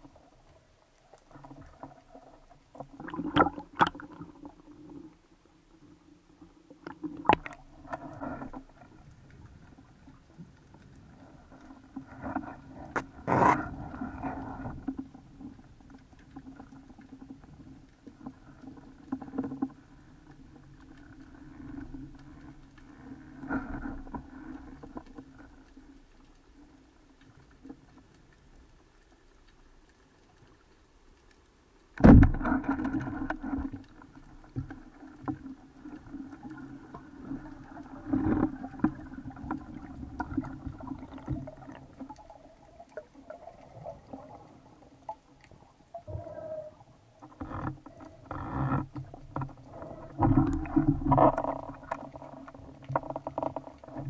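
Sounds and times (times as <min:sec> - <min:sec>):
dull steady hum: 0:00.0 - 0:54.0.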